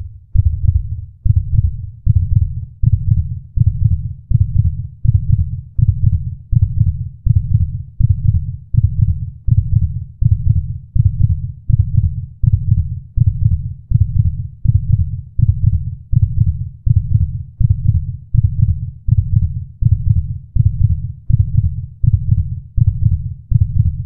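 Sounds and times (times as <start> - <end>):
heartbeat low double thuds: 0.0 - 24.0.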